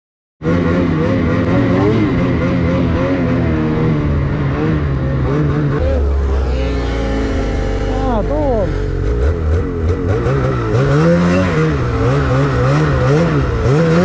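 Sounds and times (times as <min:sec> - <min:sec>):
snowmobile engine running: 0:00.4 - 0:14.0.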